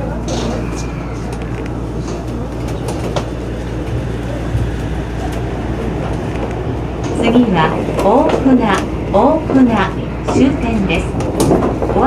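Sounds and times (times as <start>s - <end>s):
monorail car humming and rumbling: 0.0s - 12.0s.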